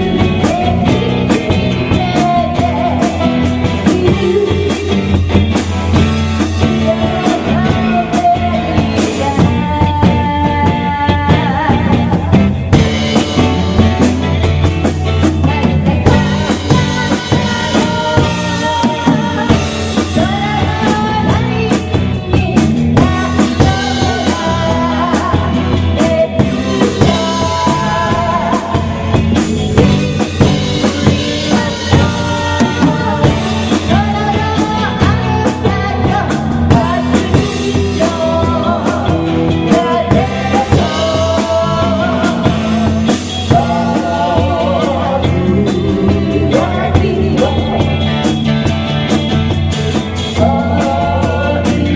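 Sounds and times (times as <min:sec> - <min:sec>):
person singing: 0:00.0 - 0:48.8, 0:49.7 - 0:51.9
rock band with drum kit: 0:00.0 - 0:51.9.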